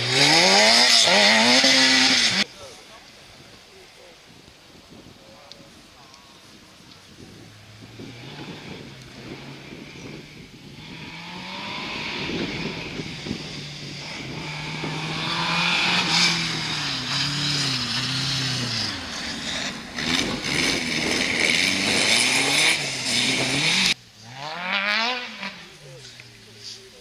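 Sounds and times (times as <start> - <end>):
rally car engine revving: 0.0 - 2.5, 7.3 - 26.8.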